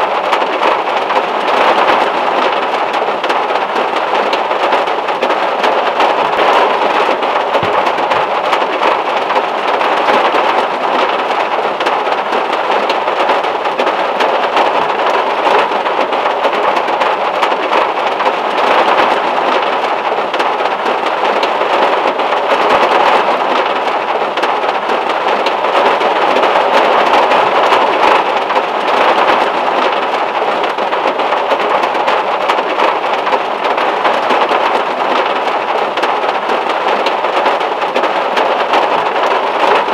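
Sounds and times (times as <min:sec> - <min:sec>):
rain on a metal car roof: 0:00.0 - 0:39.9.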